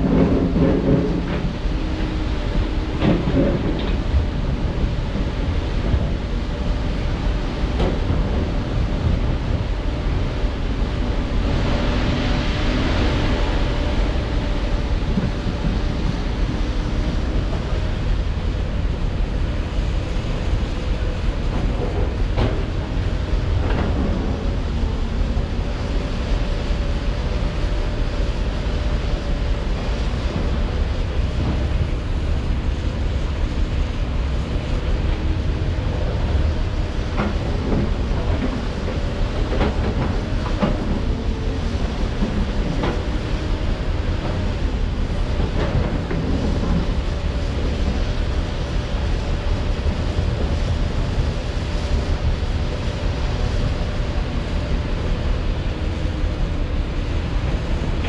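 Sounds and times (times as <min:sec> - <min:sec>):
excavator engine whine and rumble: 0:00.0 - 0:58.0.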